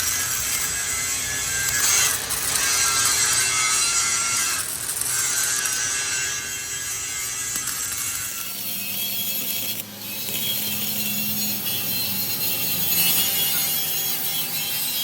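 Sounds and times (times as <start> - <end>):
welding arc crackling and hissing: 0.0 - 15.0.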